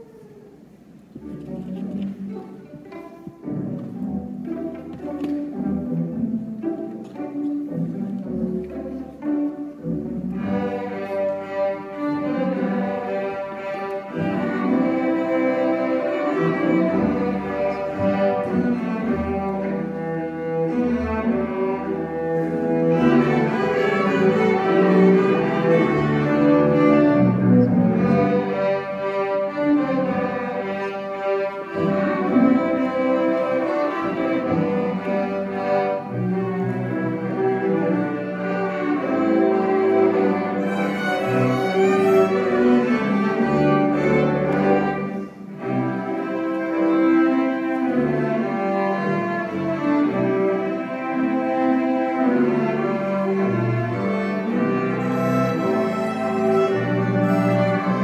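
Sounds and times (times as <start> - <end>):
string orchestra playing: 0.0 - 58.0.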